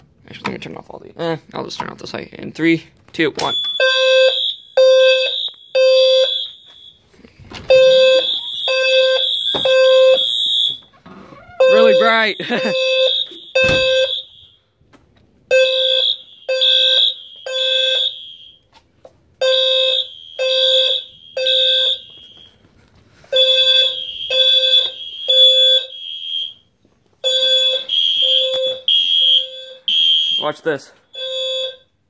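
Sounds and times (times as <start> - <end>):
fire alarm horns blasting: 3.4 - 14.8, 15.5 - 18.8, 19.4 - 32.0.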